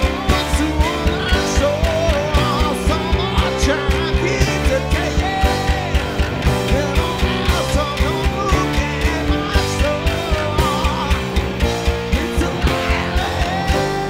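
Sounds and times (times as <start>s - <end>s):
bass guitar: 0.0s - 14.0s
drum kit beat: 0.0s - 14.0s
electric guitar: 0.0s - 14.0s
electric keyboard: 0.0s - 14.0s
person singing: 0.0s - 14.0s.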